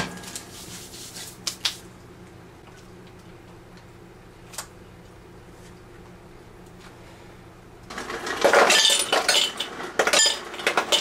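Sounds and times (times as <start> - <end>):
toaster oven humming: 0.0 - 11.0.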